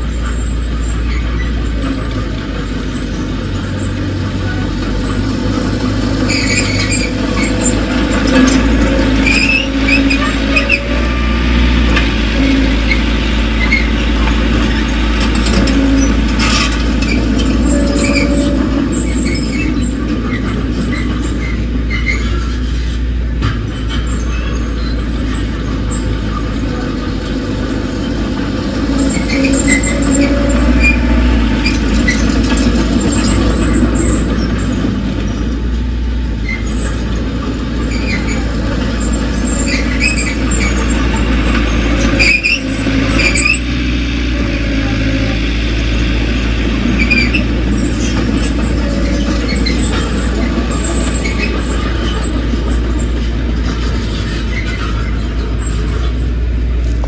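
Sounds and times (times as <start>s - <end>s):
bulldozer diesel engine rumbling: 0.0s - 57.0s
high squeaks and squeals: 0.1s - 56.3s.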